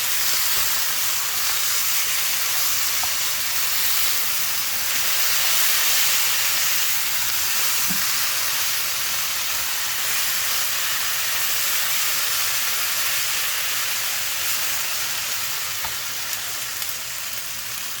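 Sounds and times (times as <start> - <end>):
rice sizzling in a hot pan: 0.0 - 18.0.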